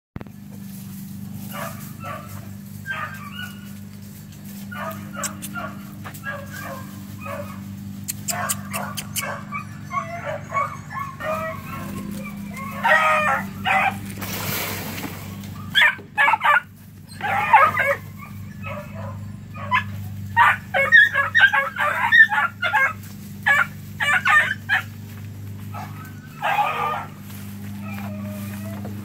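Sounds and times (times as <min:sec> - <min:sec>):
puppies yipping and barking: 0:00.2 - 0:29.0
steady low hum: 0:00.2 - 0:29.0.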